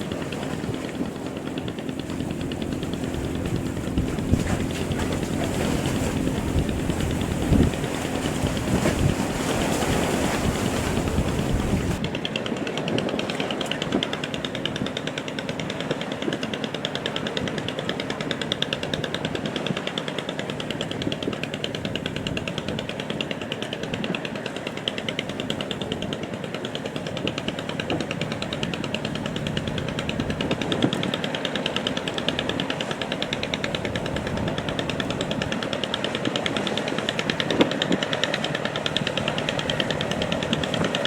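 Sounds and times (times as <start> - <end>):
boat engine knocking clatter: 0.0 - 41.0.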